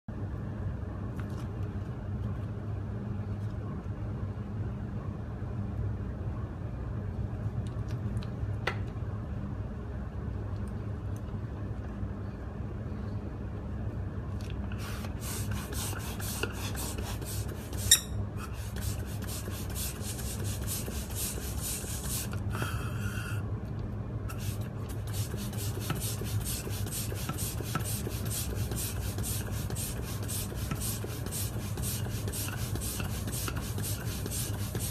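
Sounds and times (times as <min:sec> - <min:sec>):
steady low hum: 0:00.1 - 0:34.9.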